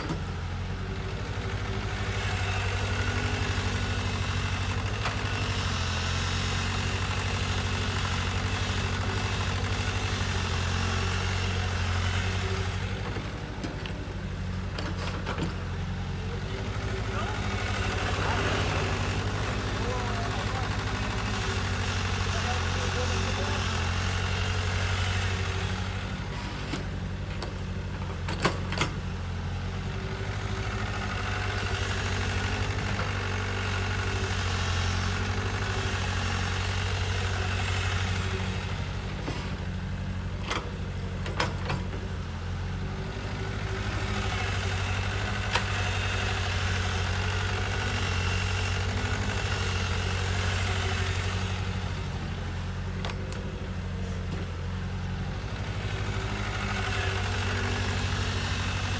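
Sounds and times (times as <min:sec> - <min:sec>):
excavator diesel engine under load: 0:00.0 - 0:58.9.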